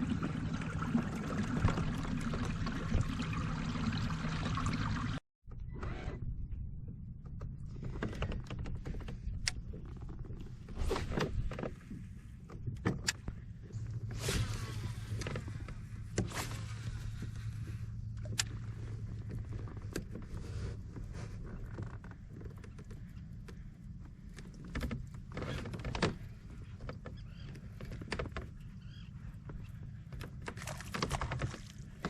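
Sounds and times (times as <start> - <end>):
knocks and clicks of gear: 5.5 - 32.0.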